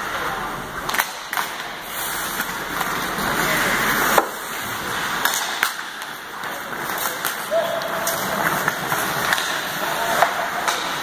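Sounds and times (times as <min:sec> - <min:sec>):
hockey sticks clacking: 0:00.0 - 0:11.0
skate blades scraping ice: 0:00.3 - 0:11.0.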